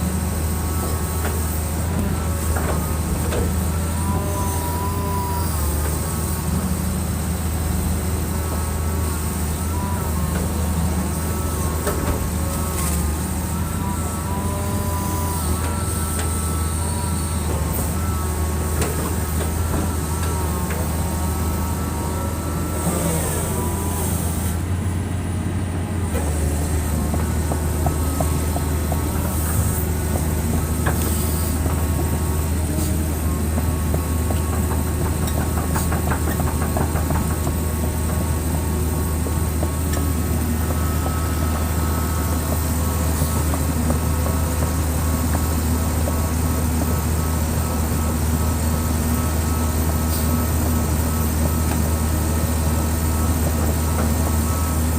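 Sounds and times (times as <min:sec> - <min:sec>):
diesel engine droning: 0:00.0 - 0:54.9.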